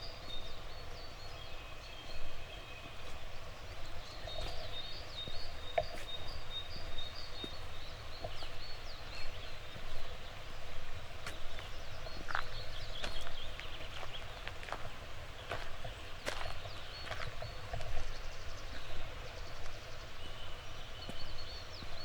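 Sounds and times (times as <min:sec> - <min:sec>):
footsteps on path: 0:00.0 - 0:22.0
songbirds singing: 0:00.0 - 0:22.0.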